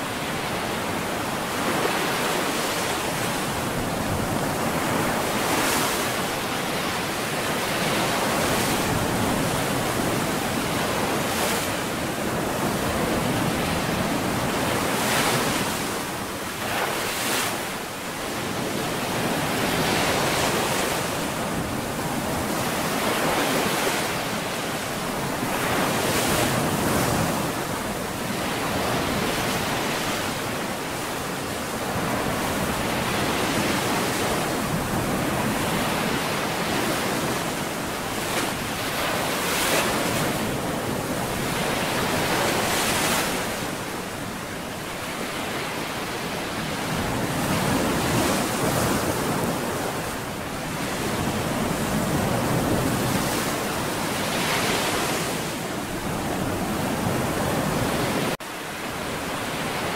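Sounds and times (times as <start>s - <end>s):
ocean surf breaking: 0.0s - 59.9s
waves crashing: 0.0s - 59.9s.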